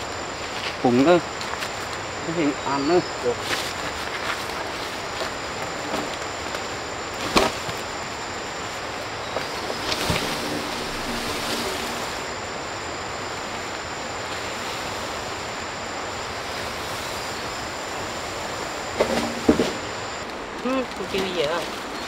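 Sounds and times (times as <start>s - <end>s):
high thin drone: 0.0s - 20.3s
rushing forest ambience: 0.0s - 22.0s.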